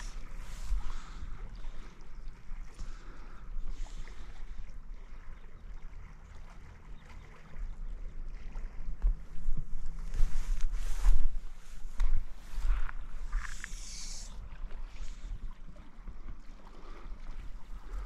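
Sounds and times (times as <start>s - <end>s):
faint stream hiss: 0.0s - 18.0s
wind rumbling on microphone: 0.0s - 18.0s.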